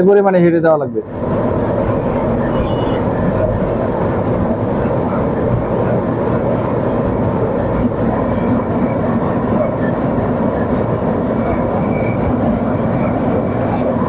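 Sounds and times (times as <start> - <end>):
gas torch flame rushing: 1.0 - 14.0.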